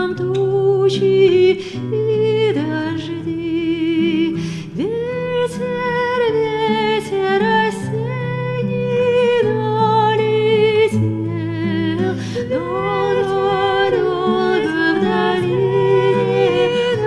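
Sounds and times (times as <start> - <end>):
voices singing a folk song: 2.6 - 17.0.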